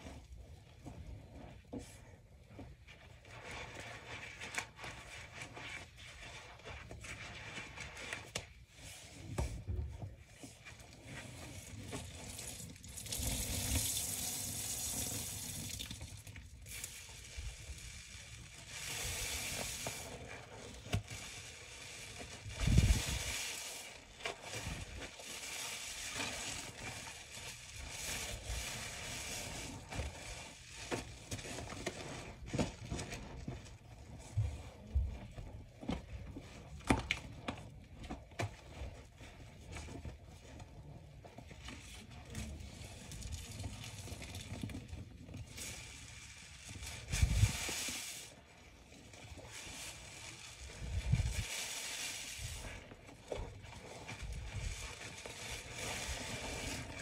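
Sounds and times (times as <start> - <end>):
crackling foam: 0.0 - 57.0
sponges squelching in suds: 0.0 - 57.0.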